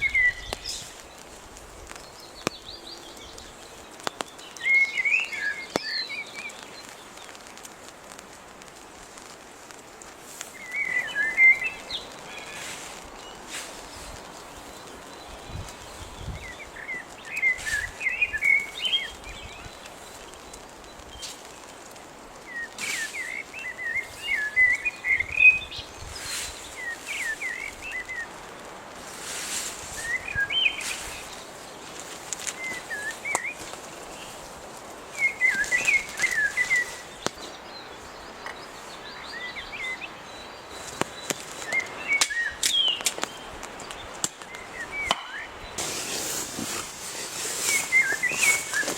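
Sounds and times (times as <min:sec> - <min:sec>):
background hiss: 0:00.0 - 0:48.9.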